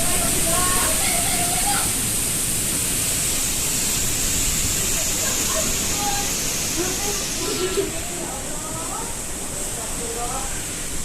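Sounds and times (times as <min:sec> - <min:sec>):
strong wind blowing: 0:00.0 - 0:11.0.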